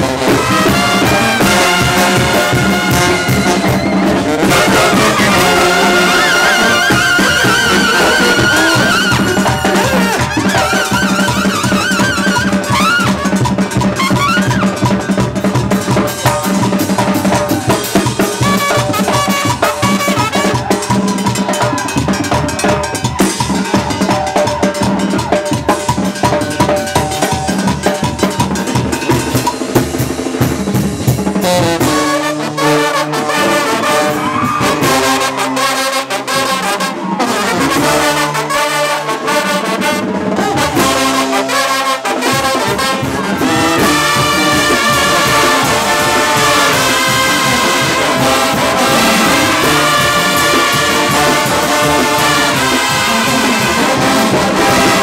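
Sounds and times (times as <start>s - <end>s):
drum kit and cymbals: 0.0s - 32.3s, 40.0s - 55.0s
brass band music: 0.0s - 55.0s.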